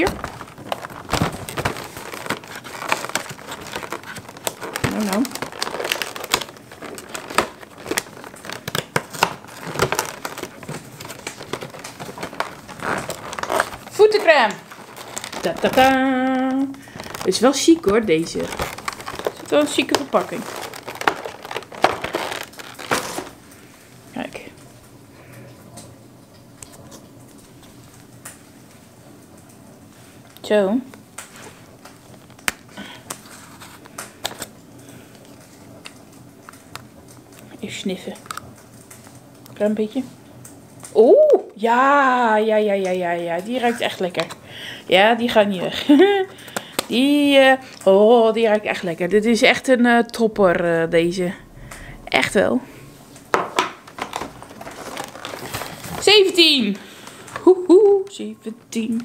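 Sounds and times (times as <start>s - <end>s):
cardboard packaging crinkling: 0.0s - 24.0s, 31.2s - 39.6s, 43.3s - 59.0s.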